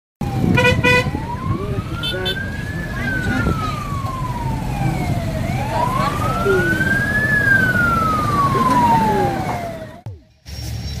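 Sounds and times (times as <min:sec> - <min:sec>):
siren wailing: 0:00.2 - 0:10.2.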